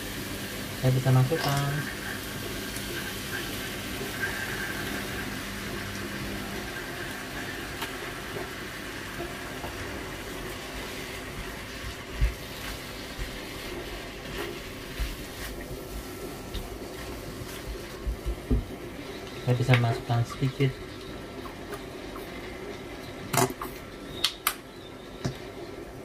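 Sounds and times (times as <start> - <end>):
sauce sizzling in a frying pan: 0.0 - 23.0.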